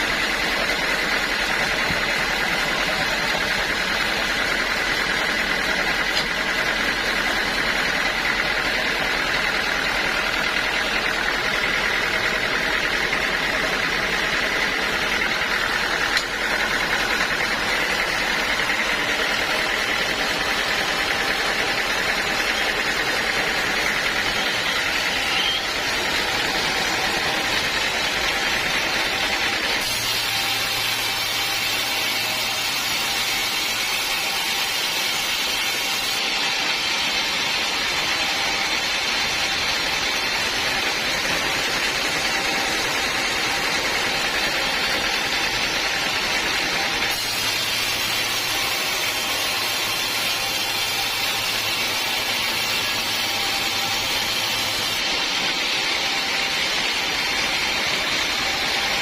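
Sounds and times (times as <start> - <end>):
sawmill saw cutting wood: 0.0 - 59.0.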